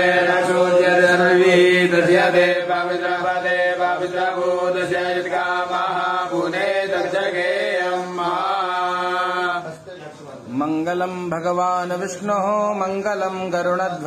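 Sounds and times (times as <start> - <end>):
men chanting mantras: 0.0 - 14.0.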